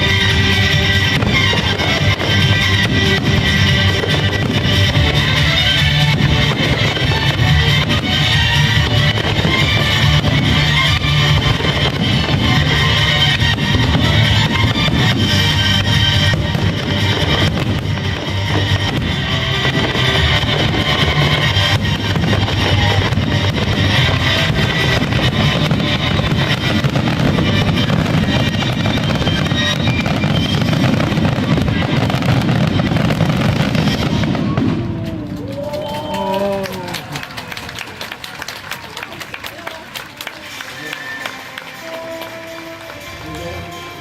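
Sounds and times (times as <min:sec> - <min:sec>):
crowd voices: 0:00.0 - 0:44.0
fireworks bursting and crackling: 0:00.0 - 0:44.0.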